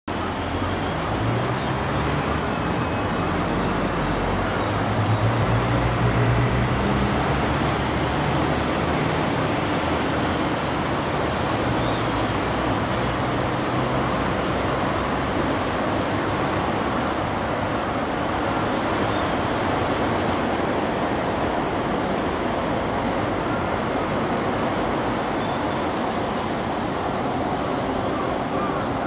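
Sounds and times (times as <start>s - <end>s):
train running slowly past: 0.1s - 29.0s.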